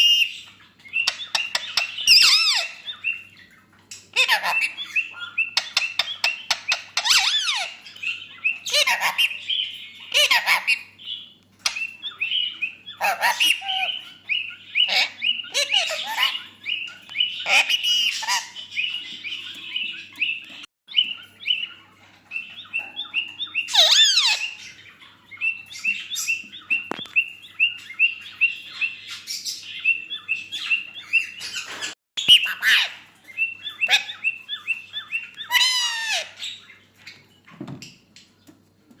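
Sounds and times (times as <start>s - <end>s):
parakeet squawks: 0.0s - 3.2s, 4.1s - 11.0s, 11.6s - 14.1s, 14.7s - 20.0s, 21.0s - 27.0s, 28.0s - 36.7s
parakeet chirping: 0.0s - 36.9s.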